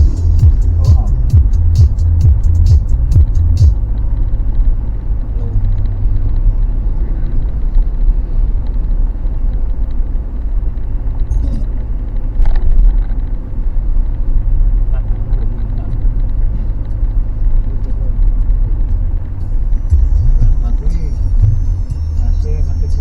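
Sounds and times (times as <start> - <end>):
vehicle engine and tyres rumbling: 0.0 - 23.0.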